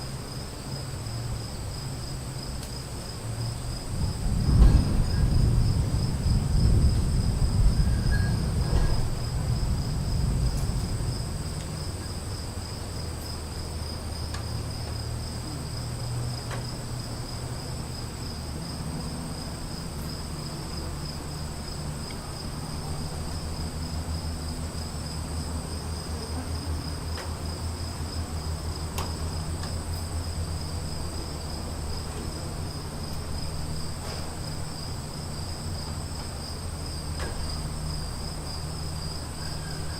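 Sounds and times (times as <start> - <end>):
insects chirring: 0.0 - 39.9
low rumble of thunder: 3.2 - 39.9.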